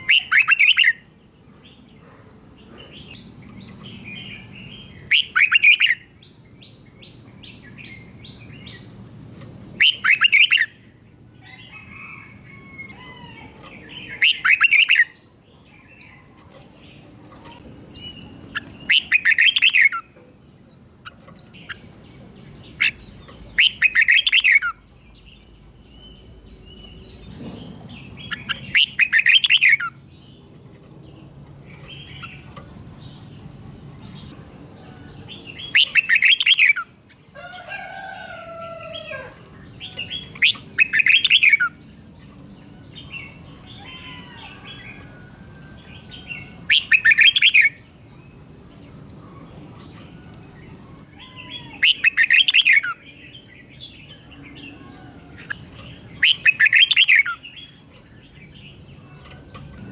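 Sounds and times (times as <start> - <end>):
bird chattering song phrases: 0.0 - 9.0, 9.7 - 10.9, 13.2 - 37.3, 38.8 - 45.0, 46.0 - 59.9.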